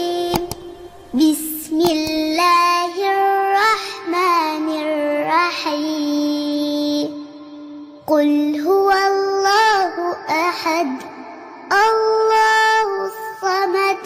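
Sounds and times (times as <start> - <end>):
child chanting recitation: 0.0 - 14.0.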